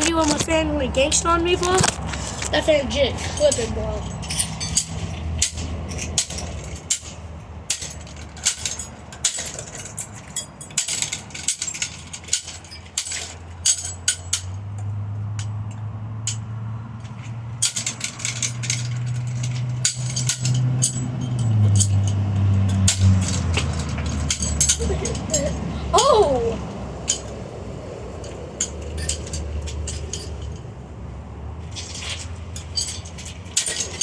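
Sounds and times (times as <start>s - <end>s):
hard pieces clinking and rattling: 1.6s - 26.1s, 27.0s - 27.4s, 28.2s - 30.6s, 31.7s - 34.0s.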